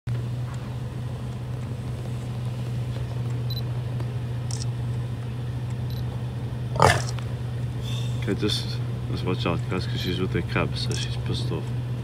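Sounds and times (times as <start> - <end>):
vehicle engine idling: 0.1 - 12.0.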